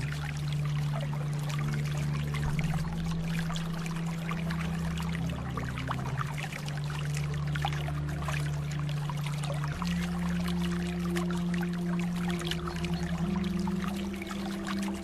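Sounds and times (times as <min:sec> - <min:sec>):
soft slow music: 0:00.0 - 0:15.0
water trickling and splashing: 0:00.0 - 0:15.0.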